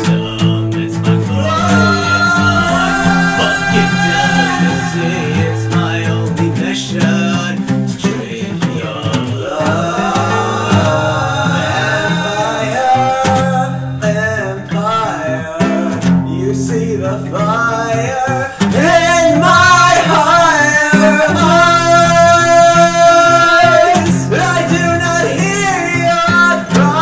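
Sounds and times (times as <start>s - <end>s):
acoustic guitar strumming: 0.0s - 27.0s
man singing: 0.0s - 27.0s.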